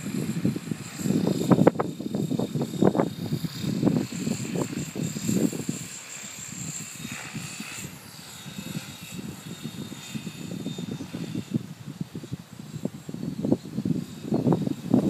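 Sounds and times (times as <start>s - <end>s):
remote-control helicopter whine: 0.0s - 15.0s
wind buffeting microphone: 0.0s - 15.0s.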